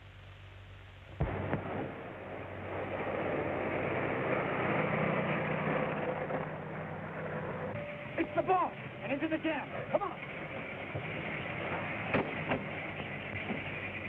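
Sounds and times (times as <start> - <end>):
vehicle rushing rumble: 1.2 - 14.0.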